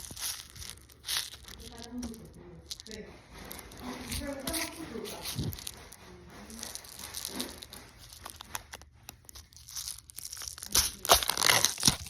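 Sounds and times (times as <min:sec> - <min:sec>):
candy box tearing and crinkling: 0:00.0 - 0:12.0.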